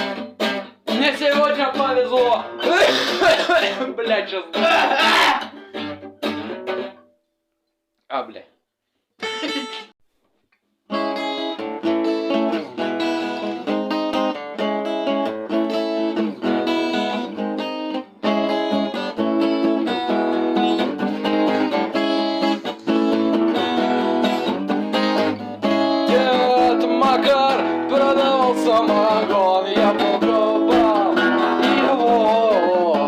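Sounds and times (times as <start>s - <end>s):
acoustic guitar strumming chords: 0.0s - 7.1s, 10.9s - 33.0s.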